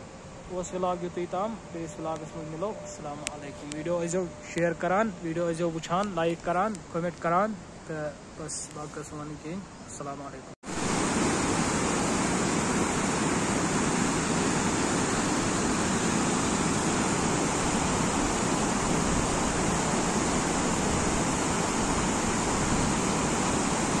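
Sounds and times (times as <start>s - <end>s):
stream rushing over rocks: 0.5s - 24.0s.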